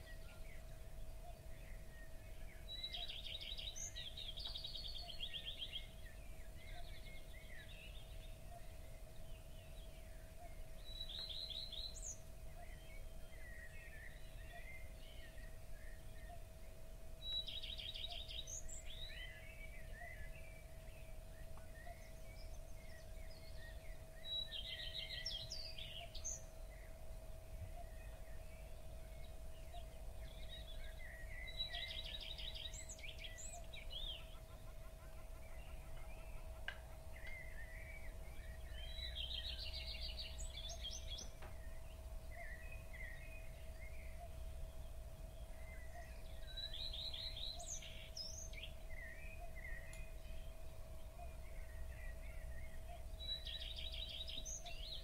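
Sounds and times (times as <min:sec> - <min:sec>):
songbird singing rapid phrase: 0:00.0 - 0:27.0, 0:27.7 - 0:55.0
birds chirping: 0:00.0 - 0:55.0.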